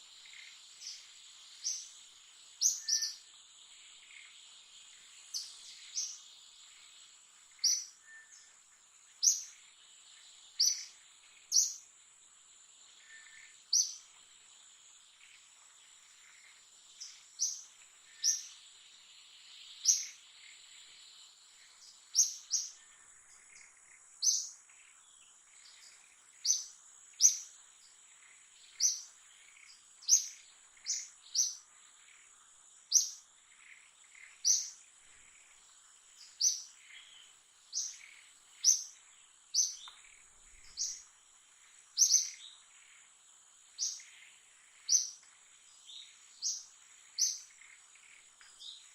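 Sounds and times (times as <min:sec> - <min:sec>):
bird chirping: 0:00.0 - 0:12.0, 0:12.6 - 0:48.9
high-pitched insect whine: 0:00.0 - 0:48.9.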